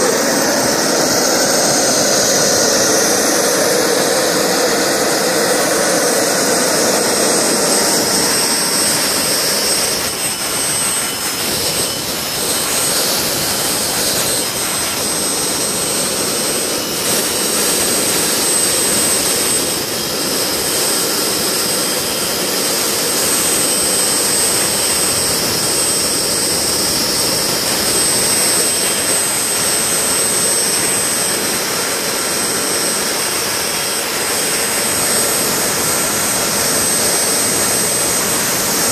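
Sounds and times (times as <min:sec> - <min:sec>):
gas turbine generator running: 0:00.0 - 0:38.9.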